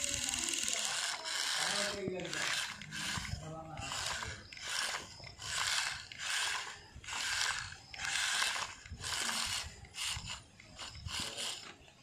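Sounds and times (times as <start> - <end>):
toy motor and gearbox whirring: 0.0 - 12.0.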